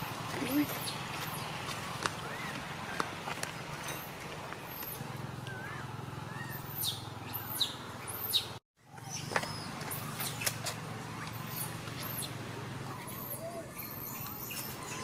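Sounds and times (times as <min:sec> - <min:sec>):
low outdoor ambient hum: 0:00.0 - 0:15.0.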